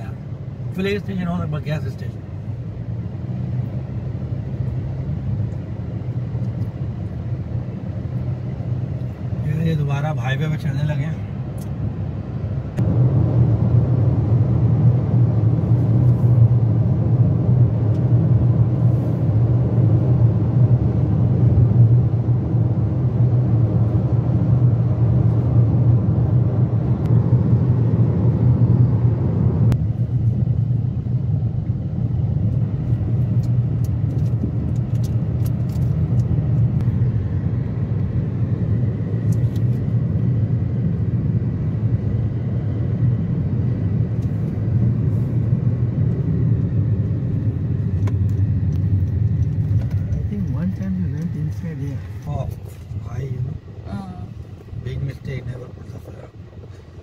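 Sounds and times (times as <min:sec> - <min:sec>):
car tyre and engine rumble: 0:00.0 - 0:57.0.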